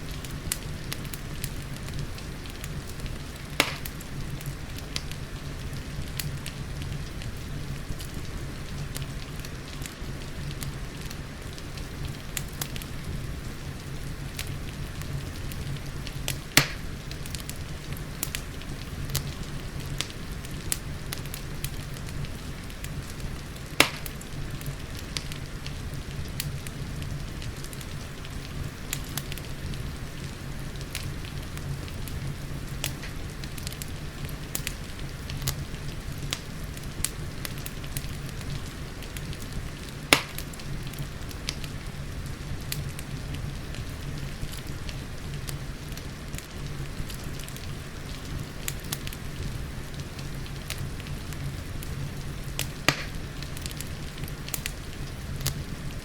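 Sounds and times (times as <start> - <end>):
fire popping: 0.0 - 56.0
gentle rain hiss: 0.0 - 56.0
wood fire crackling: 0.0 - 56.0.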